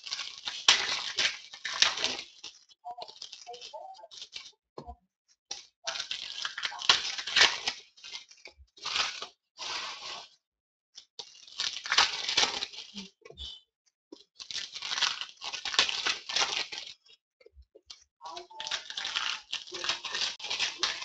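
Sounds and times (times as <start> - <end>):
foil wrapper tearing and crinkling: 0.0 - 4.5, 5.5 - 10.4, 11.0 - 13.2, 14.2 - 17.2, 17.9 - 21.0.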